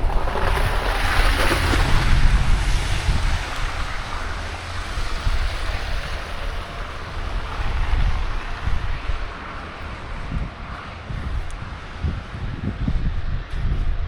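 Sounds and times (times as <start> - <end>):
blizzard wind gusting: 0.0 - 14.0.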